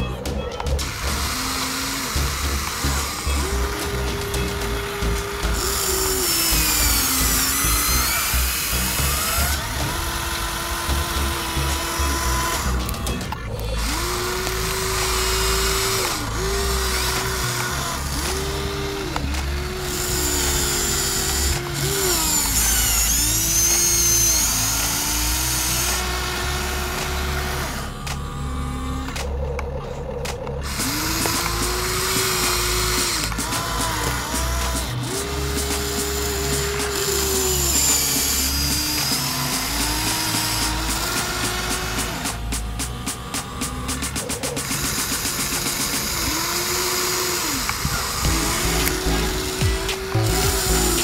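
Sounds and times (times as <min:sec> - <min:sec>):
toy electric motors whining: 0:00.0 - 0:51.0.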